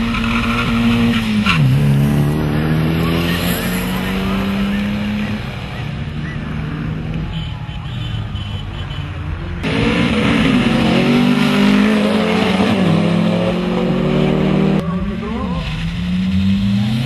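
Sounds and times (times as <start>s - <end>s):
car accelerating away: 0.0s - 7.1s, 9.6s - 17.0s
loud engine revving: 0.0s - 7.2s, 9.6s - 17.0s.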